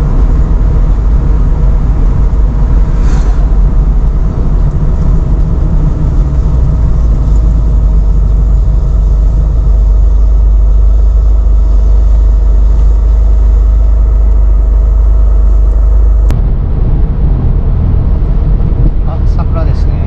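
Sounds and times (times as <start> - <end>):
car engine rumble inside cabin: 0.0 - 20.0.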